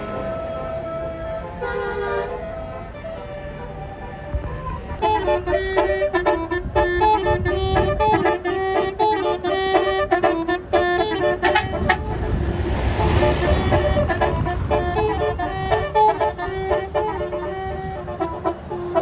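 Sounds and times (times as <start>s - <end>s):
multi-tone bus horn tune: 0.0s - 19.0s.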